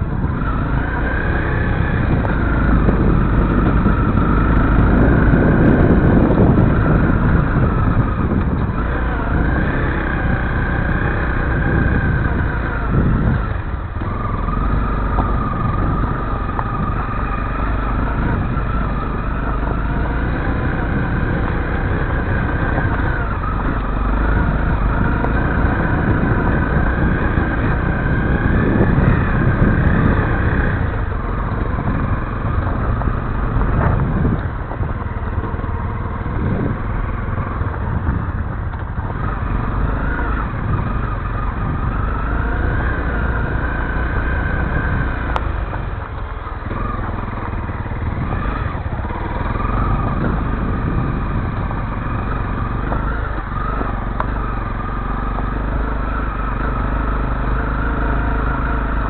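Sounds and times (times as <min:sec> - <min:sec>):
low camera rumble: 0:00.0 - 0:59.0
motorcycle engine revving: 0:00.0 - 0:59.0.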